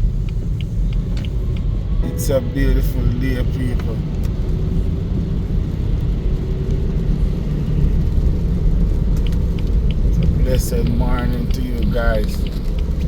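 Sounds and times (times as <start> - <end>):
car driving heard from inside: 0.0 - 13.0.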